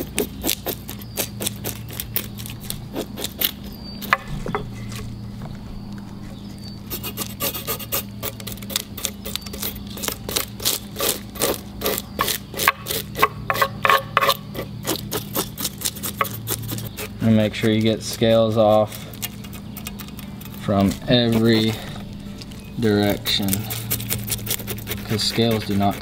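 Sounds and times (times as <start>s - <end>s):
comb scraping fish scales: 0.0s - 5.1s, 6.1s - 26.0s
steady low hum: 0.0s - 26.0s.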